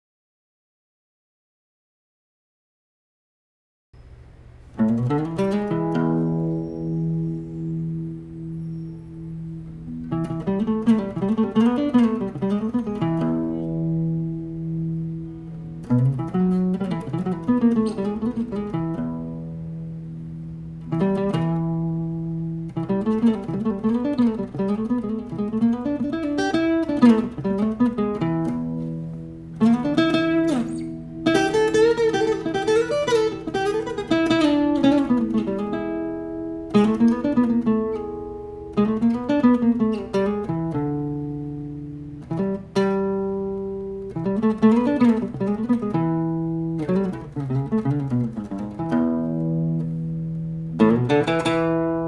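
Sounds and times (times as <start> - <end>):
acoustic guitar fingerstyle: 4.6 - 52.0.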